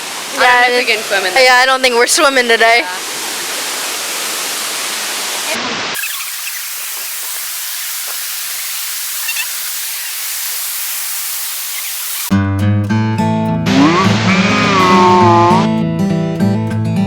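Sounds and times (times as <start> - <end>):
waterfall rushing: 0.0 - 12.3, 13.7 - 15.6.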